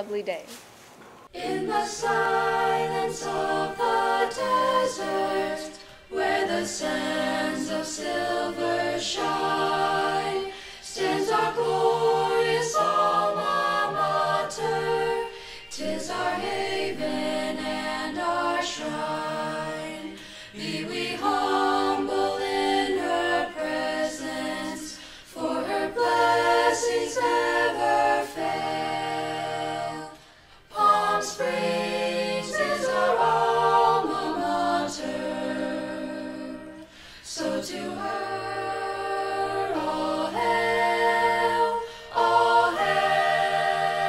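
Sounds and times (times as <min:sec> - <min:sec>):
choir singing a cappella: 0:01.2 - 0:44.0.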